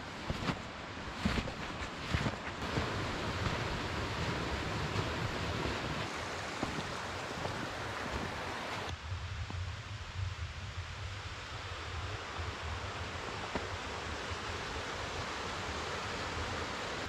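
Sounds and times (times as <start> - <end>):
wind buffeting microphone: 0.0 - 14.7
rushing wind hiss: 0.0 - 17.0.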